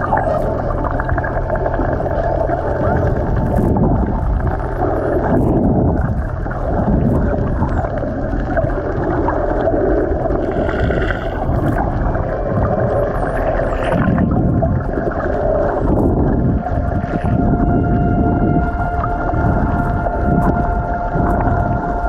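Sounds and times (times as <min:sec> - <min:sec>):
underwater water rush: 0:00.0 - 0:22.0.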